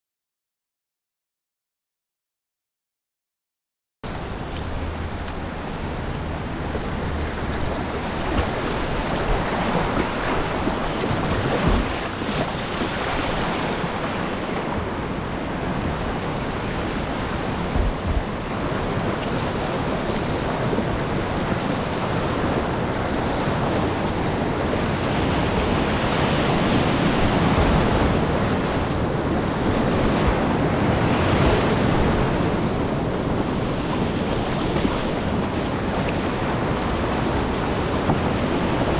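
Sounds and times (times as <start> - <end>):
wind buffeting microphone: 4.1 - 38.9
whitewater rushing: 4.2 - 38.9.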